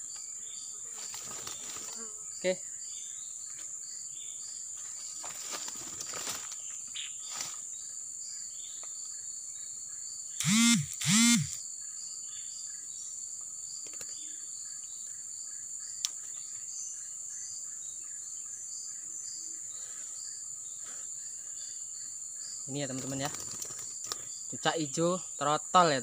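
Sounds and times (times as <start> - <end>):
forest insects droning: 0.0 - 26.0.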